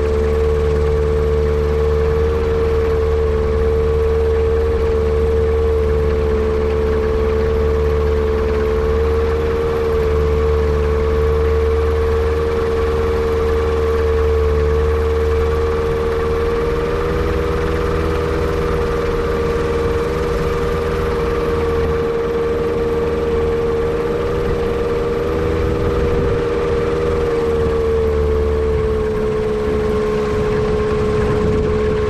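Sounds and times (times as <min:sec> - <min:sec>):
airplane engine running: 0:00.0 - 0:32.0.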